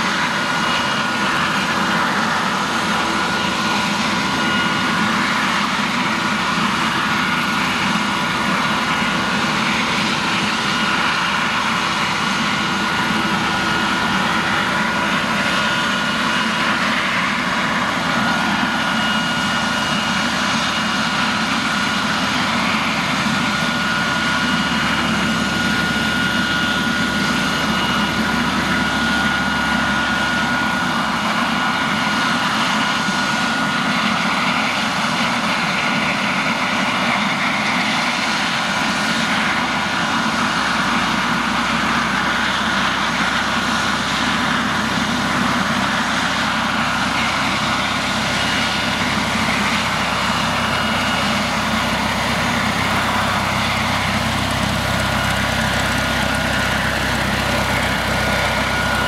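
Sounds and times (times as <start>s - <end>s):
helicopter rotor rush: 0.0s - 59.0s
helicopter turbine whine: 0.0s - 59.0s.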